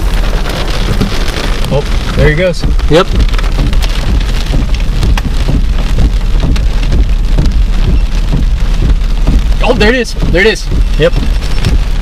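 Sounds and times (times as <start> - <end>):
heavy rain on windshield: 0.0 - 12.0
steady low rumble: 0.0 - 12.0.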